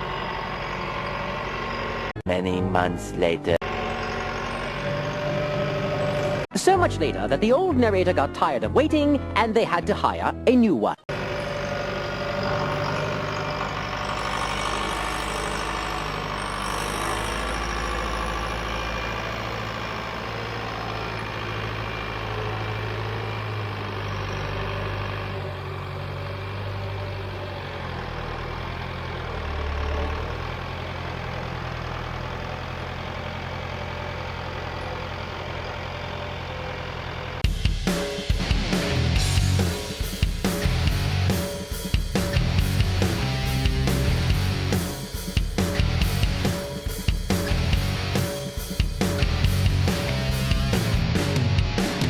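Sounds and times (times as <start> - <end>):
backhoe engine running: 0.0 - 6.6, 11.1 - 37.5, 38.7 - 52.0.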